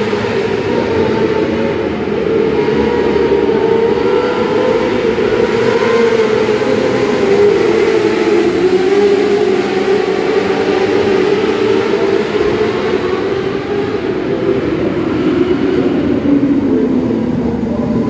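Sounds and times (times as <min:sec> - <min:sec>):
racing car engines droning: 0:00.0 - 0:18.0.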